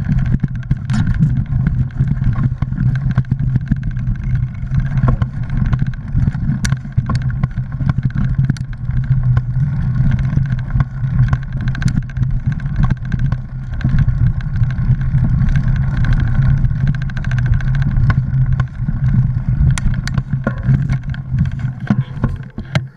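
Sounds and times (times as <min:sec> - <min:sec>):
bike tyres rumbling on dirt trail: 0:00.0 - 0:22.9
clicks and rattles over bumps: 0:00.0 - 0:22.9.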